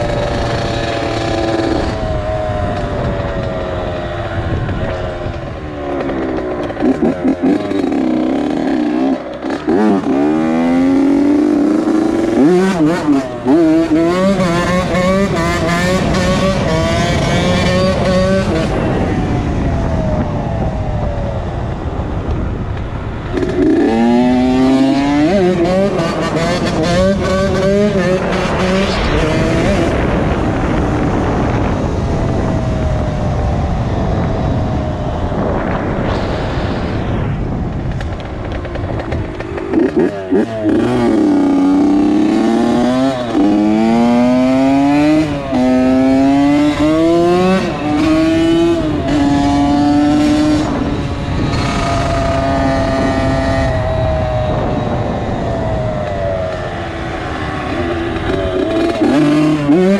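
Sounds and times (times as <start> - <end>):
two-stroke engine revving: 0.0 - 19.5, 23.3 - 32.0, 38.7 - 59.9.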